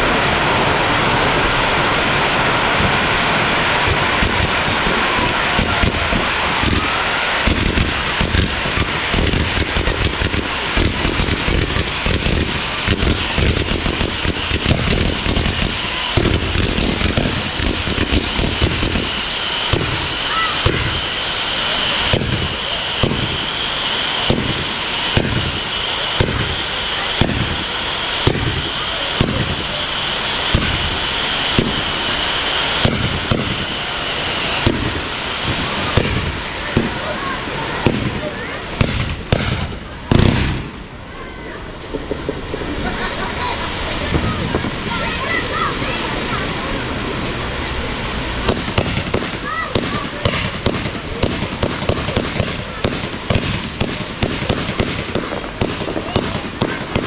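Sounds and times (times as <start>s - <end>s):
continuous hiss: 0.0s - 57.0s
fireworks bangs and crackling: 0.0s - 57.0s.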